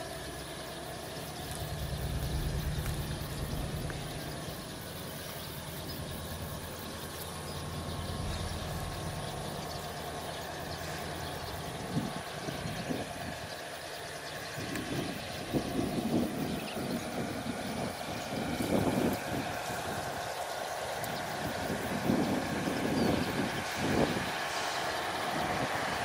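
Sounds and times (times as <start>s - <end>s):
diesel locomotive rumble: 0.0s - 26.0s.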